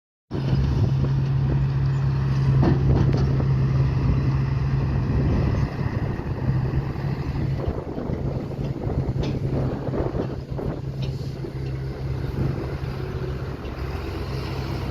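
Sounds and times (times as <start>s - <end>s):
heavy diesel engine running: 0.3s - 14.9s.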